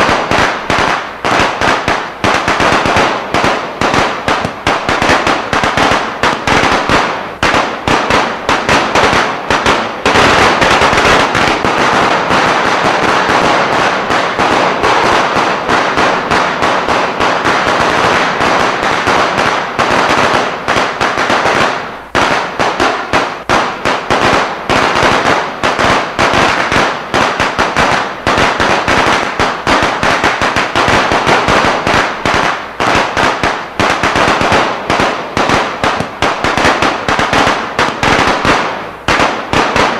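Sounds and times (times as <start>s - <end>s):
rapid firecracker cracks: 0.0s - 39.9s.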